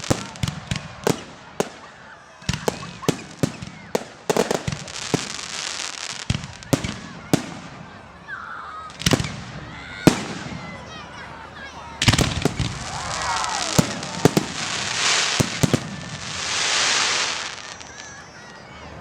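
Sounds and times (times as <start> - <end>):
fireworks crackle: 0.0 - 8.2, 8.8 - 19.0
fireworks exploding: 0.0 - 19.0.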